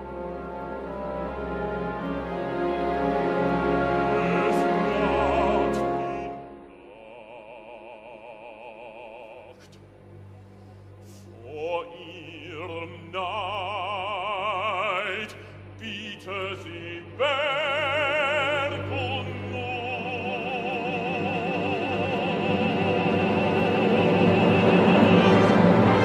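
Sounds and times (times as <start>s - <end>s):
operatic bass-baritone singing: 2.0s - 9.7s, 11.3s - 26.0s.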